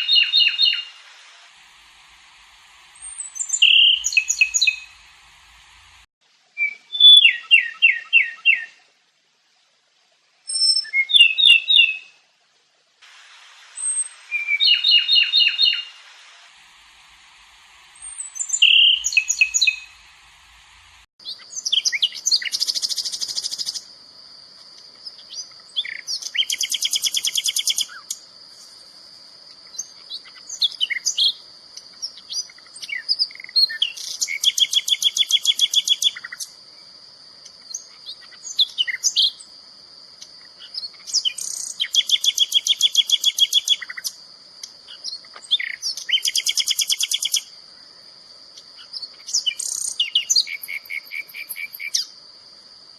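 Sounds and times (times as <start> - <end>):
songbird singing: 0.0 - 1.2, 1.9 - 8.9, 10.2 - 12.4, 13.7 - 52.9.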